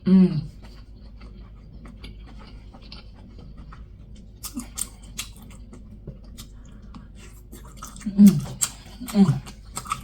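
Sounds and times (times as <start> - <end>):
person chewing and smacking food: 0.4 - 10.0.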